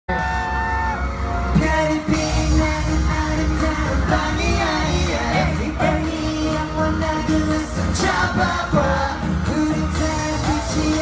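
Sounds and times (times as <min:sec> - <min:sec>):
pop backing track with bass: 0:00.1 - 0:11.0
men singing into microphones: 0:01.5 - 0:11.0.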